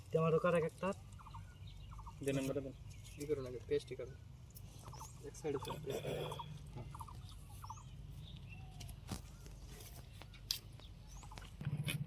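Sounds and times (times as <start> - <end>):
faint bird chirps: 0.2 - 11.6.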